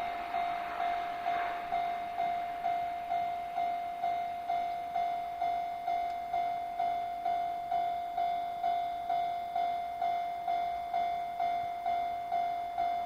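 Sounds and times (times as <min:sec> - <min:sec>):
level-crossing warning bell ringing: 0:00.0 - 0:13.0.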